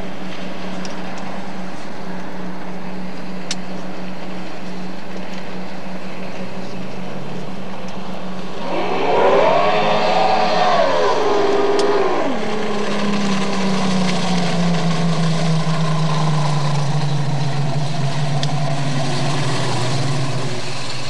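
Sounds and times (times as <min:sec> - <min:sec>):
speedboat motors passing: 0:00.0 - 0:21.0.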